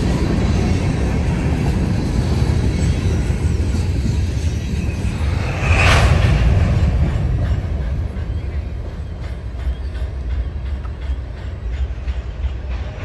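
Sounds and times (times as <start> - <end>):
freight train cars rumbling past: 0.0 - 13.0.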